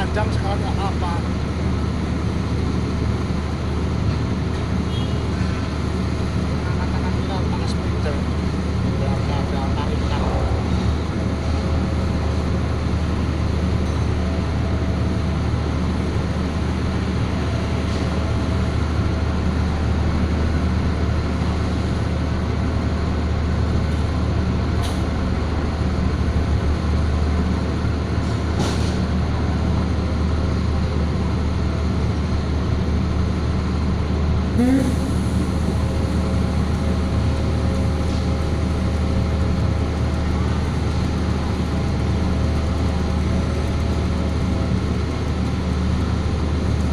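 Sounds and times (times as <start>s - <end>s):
heavy engine droning: 0.0s - 46.9s.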